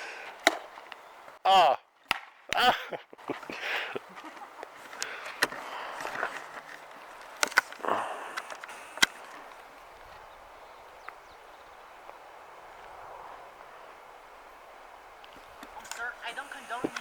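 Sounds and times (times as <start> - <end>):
faint steady hiss: 2.7 - 17.0.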